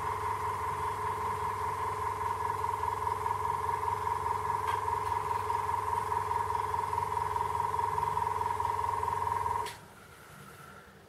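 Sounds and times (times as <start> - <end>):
compressor humming: 0.0 - 10.0.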